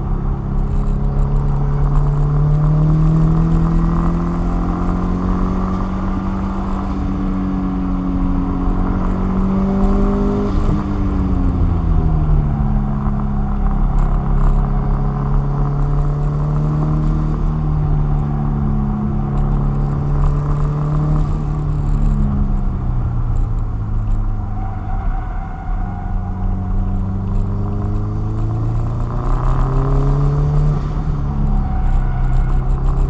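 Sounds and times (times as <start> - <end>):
car engine: 0.0 - 33.0
tyre and road rumble: 0.0 - 33.0.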